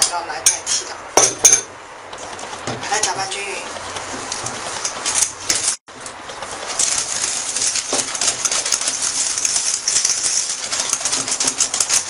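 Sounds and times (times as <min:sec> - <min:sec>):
whisk beating in metal bowl: 0:02.2 - 0:12.0.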